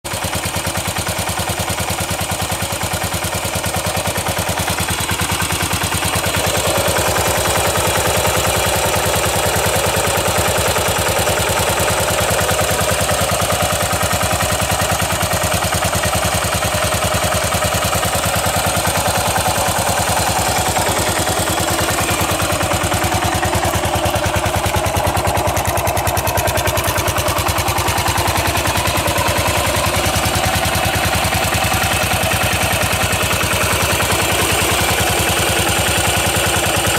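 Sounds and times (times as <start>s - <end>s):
single-cylinder engine running: 0.0s - 36.9s.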